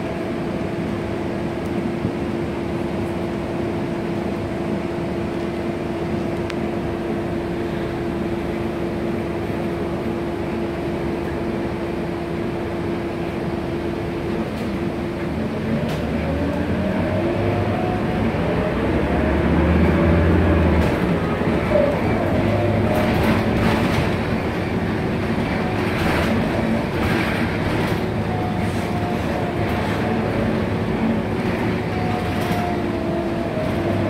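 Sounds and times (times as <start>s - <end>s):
bus engine idling and accelerating: 0.0s - 34.0s.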